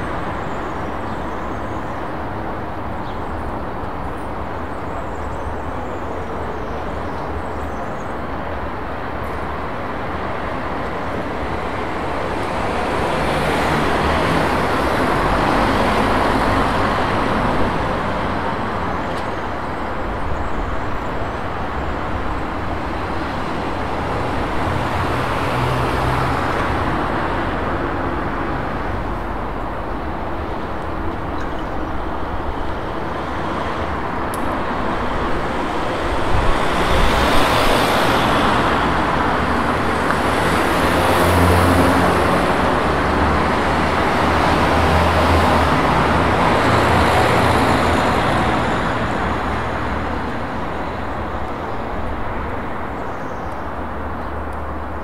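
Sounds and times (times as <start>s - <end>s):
street traffic passing: 0.0s - 55.0s.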